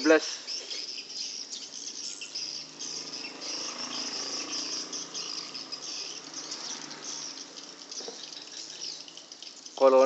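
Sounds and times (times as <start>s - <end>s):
swiftlets twittering: 0.0s - 10.0s.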